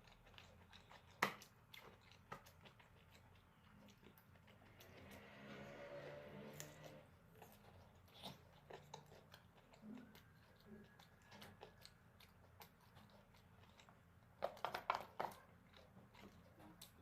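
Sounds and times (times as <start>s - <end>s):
person chewing and biting food: 0.0s - 17.0s.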